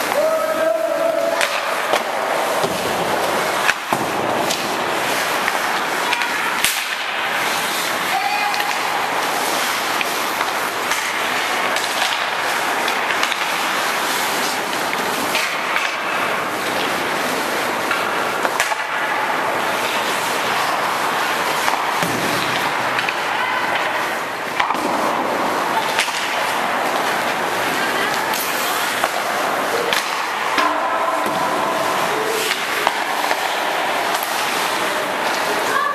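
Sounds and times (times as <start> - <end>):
hockey sticks and puck clacking: 0.0 - 35.9
skate blades scraping ice: 0.0 - 35.9.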